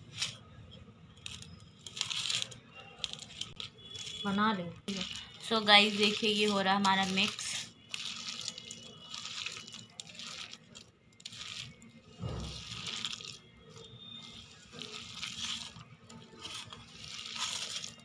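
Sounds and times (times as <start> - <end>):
hand squeezing moist mixture: 0.0 - 18.0.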